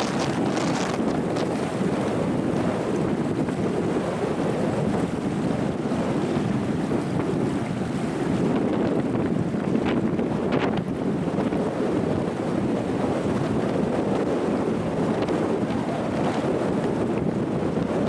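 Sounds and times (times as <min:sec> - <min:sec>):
sea surf: 0:00.0 - 0:18.0
wind buffeting microphone: 0:00.0 - 0:18.0.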